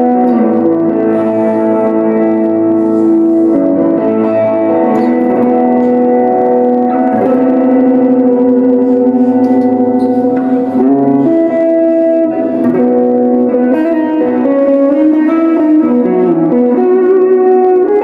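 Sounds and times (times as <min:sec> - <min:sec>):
distorted electric guitar melody: 0:00.0 - 0:18.0.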